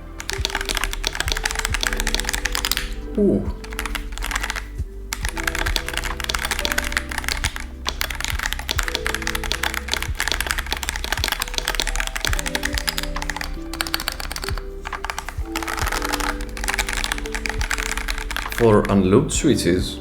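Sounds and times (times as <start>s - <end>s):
fast mechanical keyboard typing: 0.0s - 19.1s
background music with steady beat: 0.0s - 20.0s.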